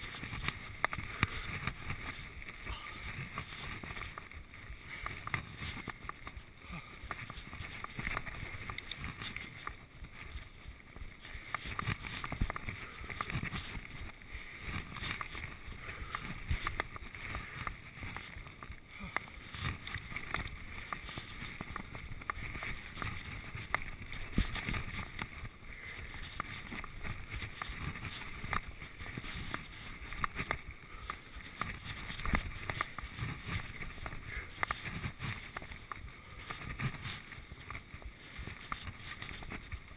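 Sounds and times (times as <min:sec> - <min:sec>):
bike knocking and rattling: 0:00.0 - 0:39.9
bike tyres rumbling on trail: 0:00.0 - 0:39.9
wind: 0:00.0 - 0:39.9.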